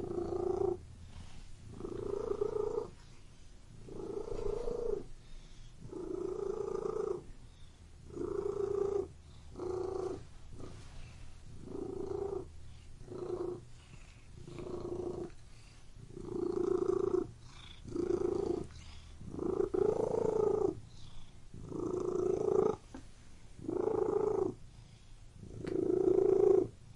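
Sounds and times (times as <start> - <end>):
cat purring: 0.0 - 26.9.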